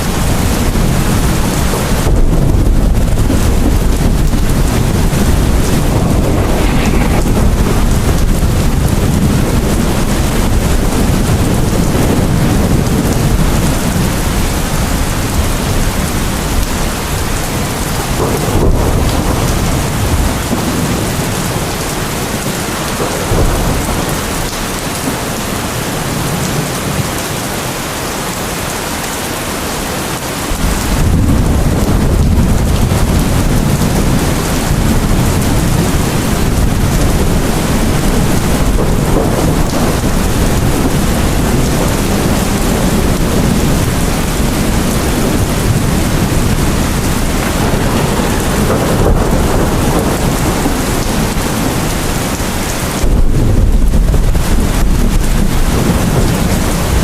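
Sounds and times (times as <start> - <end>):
rolling thunder: 0.0 - 27.3, 30.4 - 57.0
steady rain: 0.0 - 57.0.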